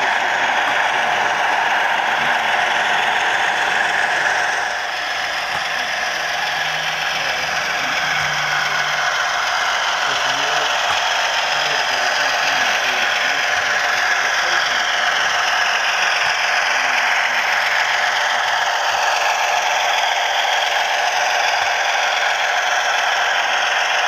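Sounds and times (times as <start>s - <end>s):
model train clattering on track: 0.0s - 24.0s.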